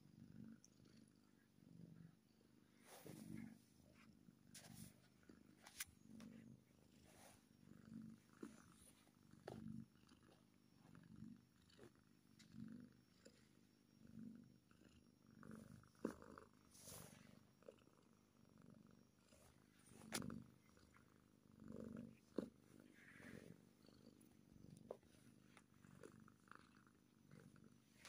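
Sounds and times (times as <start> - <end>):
kitten purring: 0.0 - 28.0.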